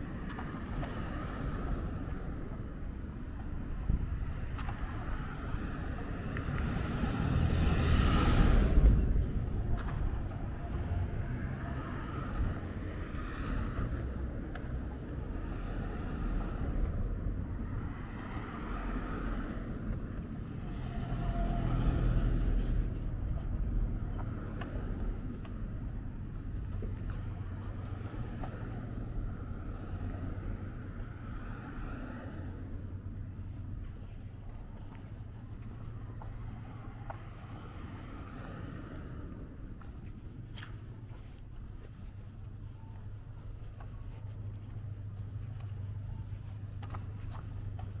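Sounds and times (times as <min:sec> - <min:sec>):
cars passing: 0:00.0 - 0:48.0
low traffic rumble: 0:00.0 - 0:48.0.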